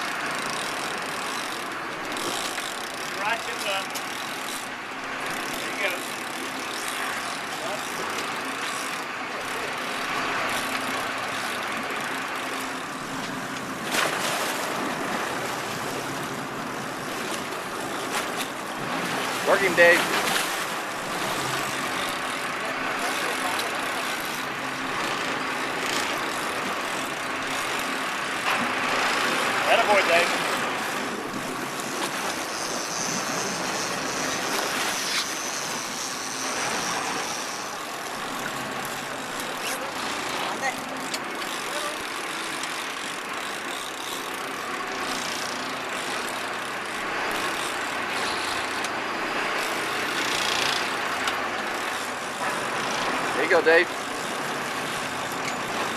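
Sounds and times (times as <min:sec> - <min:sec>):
boat engine running: 0:00.0 - 0:55.9
water noise: 0:00.0 - 0:55.9
wind: 0:00.0 - 0:55.9.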